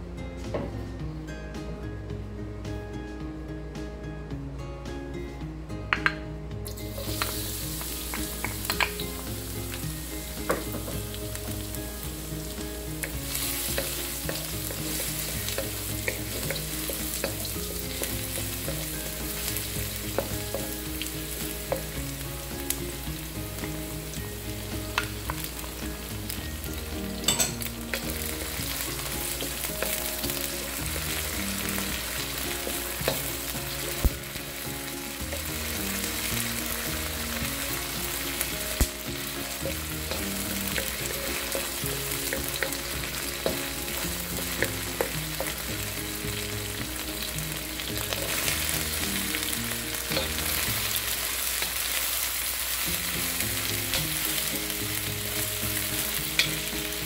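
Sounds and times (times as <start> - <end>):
garlic sizzling in oil: 6.7 - 57.0.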